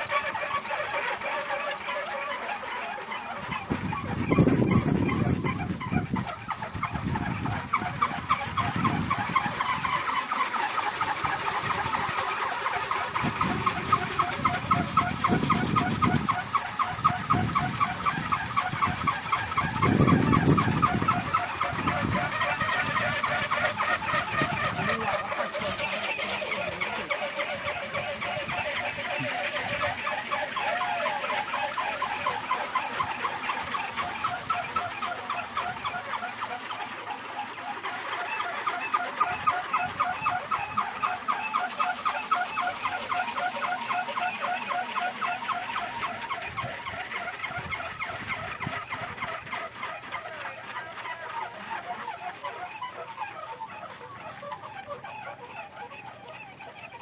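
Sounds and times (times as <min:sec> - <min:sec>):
wooden propeller whirring in wind: 0:00.0 - 0:57.0.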